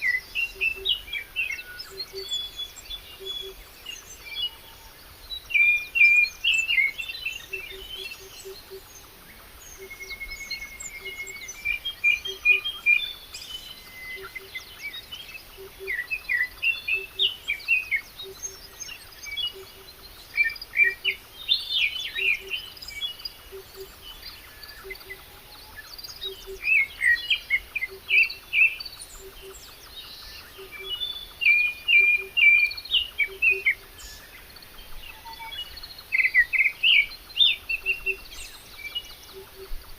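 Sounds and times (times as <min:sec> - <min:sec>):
small birds singing and chirping: 0:00.0 - 0:39.9.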